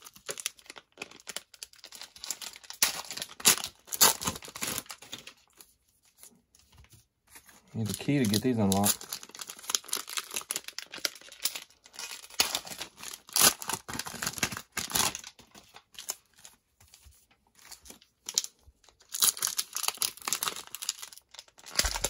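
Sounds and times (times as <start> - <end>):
plastic wrappers crinkling and tearing: 0.0 - 22.0.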